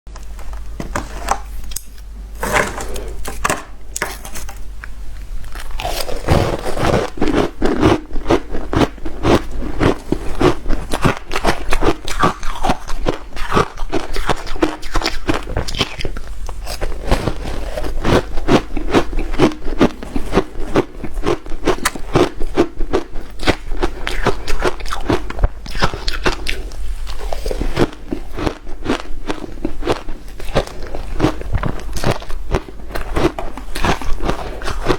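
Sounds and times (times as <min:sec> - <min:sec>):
person chewing crunchy ice: 0:05.5 - 0:34.9.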